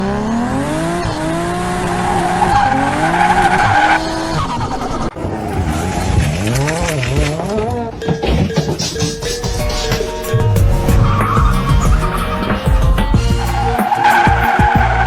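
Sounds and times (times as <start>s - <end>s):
racing car engine revving: 0.0s - 15.0s
tires squealing: 0.0s - 15.0s.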